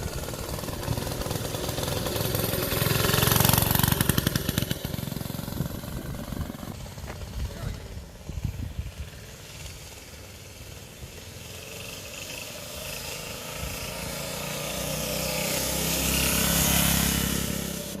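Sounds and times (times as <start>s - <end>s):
mini bike engine running: 0.0s - 18.0s.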